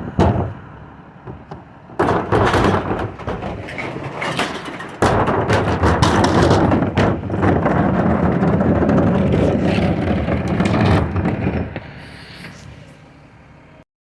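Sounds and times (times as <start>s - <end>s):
recycling truck running: 0.0s - 13.8s
sharp knocks: 0.1s - 11.9s.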